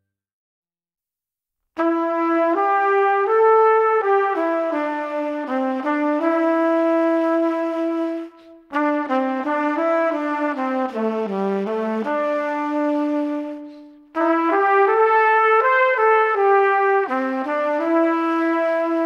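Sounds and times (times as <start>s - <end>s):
brass-led melody: 1.8s - 19.0s.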